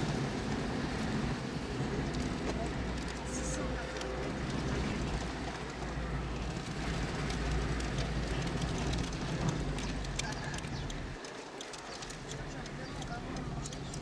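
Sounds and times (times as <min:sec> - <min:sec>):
car engine and road rumble: 0:00.0 - 0:14.0
light clicks and rattles: 0:01.9 - 0:14.0.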